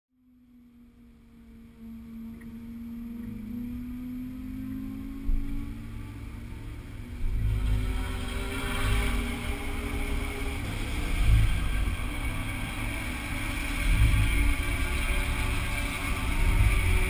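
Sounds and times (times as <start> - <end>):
low rumble: 0.2 - 17.0
racing car engine approaching: 0.2 - 17.0.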